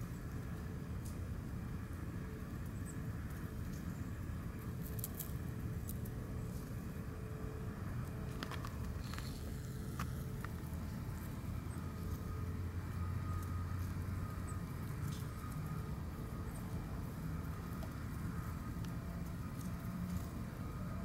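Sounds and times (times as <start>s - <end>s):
faint steady hum: 0.0s - 21.0s
low outdoor rumble: 0.0s - 21.0s.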